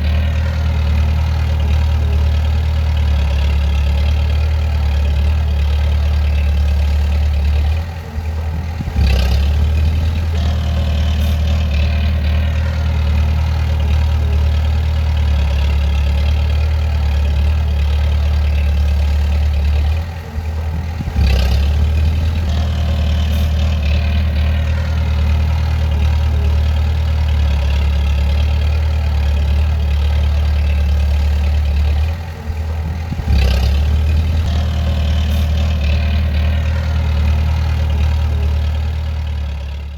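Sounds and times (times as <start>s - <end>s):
diesel engine humming: 0.0s - 39.9s
engine knock: 0.0s - 39.9s.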